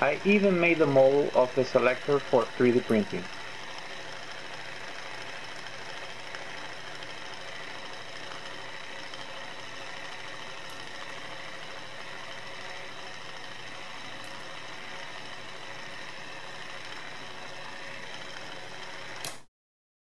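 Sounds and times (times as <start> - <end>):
small electric motor whirring: 0.0 - 19.5.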